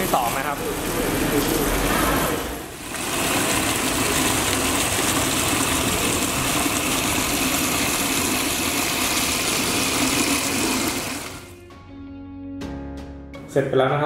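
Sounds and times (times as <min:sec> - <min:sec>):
water gushing onto concrete: 0:00.0 - 0:11.5
water pump humming: 0:00.0 - 0:11.6.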